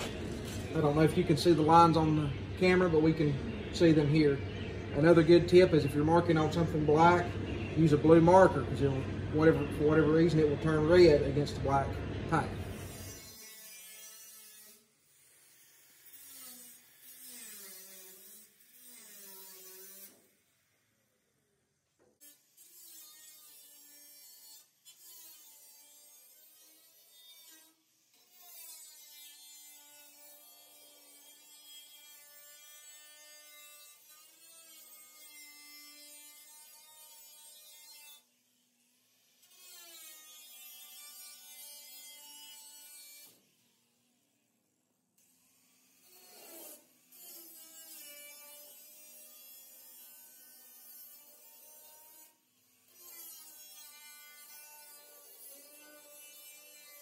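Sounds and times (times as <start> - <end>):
angle grinder cutting sheet steel: 0.0 - 7.2, 7.8 - 20.7, 22.2 - 43.9, 45.2 - 57.0.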